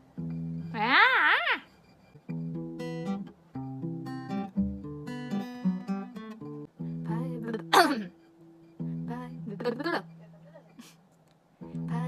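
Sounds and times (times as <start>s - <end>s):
acoustic guitar plucked notes: 0.0s - 1.1s, 1.7s - 10.4s, 11.6s - 12.0s.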